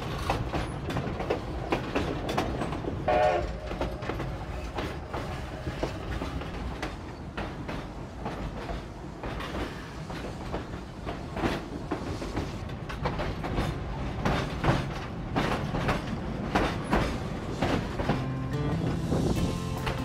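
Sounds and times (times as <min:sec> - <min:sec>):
train cars rumbling: 0:00.0 - 0:20.0
wheels clacking over rail joints: 0:00.0 - 0:20.0.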